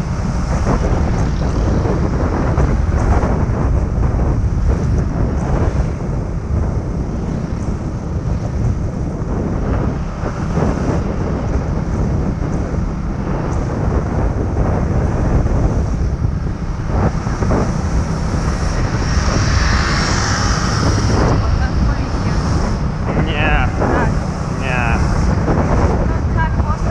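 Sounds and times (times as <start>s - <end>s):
engine and road noise rumble: 0.0s - 26.9s
wind buffeting microphone: 0.0s - 26.9s.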